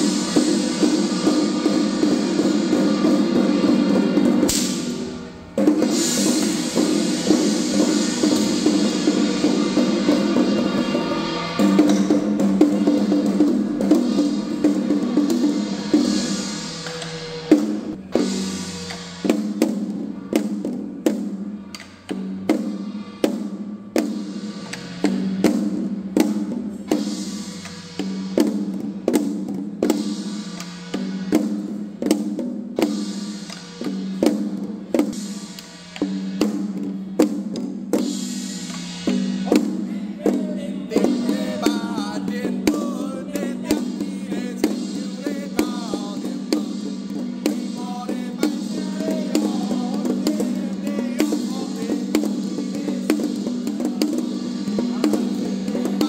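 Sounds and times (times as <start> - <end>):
drum and percussion beat: 0.0 - 56.0.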